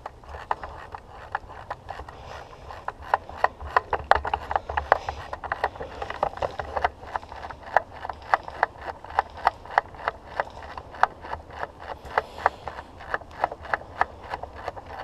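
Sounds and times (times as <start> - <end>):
rattling gear: 0.0 - 15.0.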